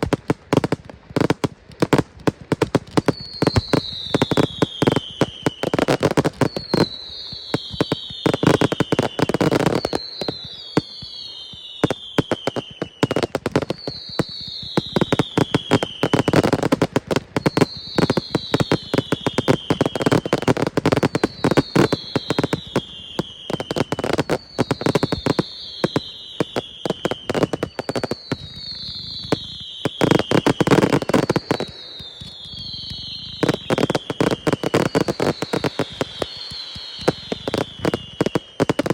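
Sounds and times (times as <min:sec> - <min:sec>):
fireworks bangs and crackling: 0:00.0 - 0:38.9
whistles falling in pitch: 0:03.1 - 0:16.6, 0:17.4 - 0:38.9.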